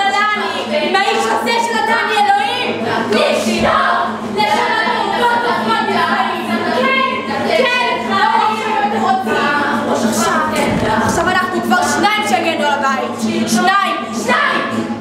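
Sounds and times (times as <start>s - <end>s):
women singing a cappella: 0.0s - 15.0s.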